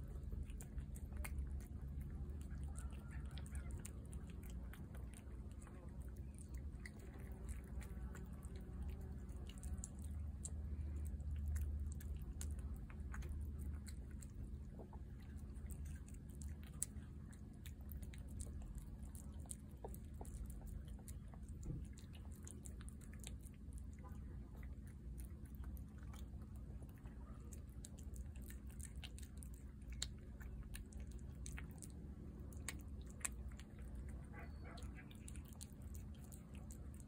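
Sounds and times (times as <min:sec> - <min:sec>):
cat chewing and lapping food: 0:00.0 - 0:37.0
low steady rumble: 0:00.0 - 0:37.0.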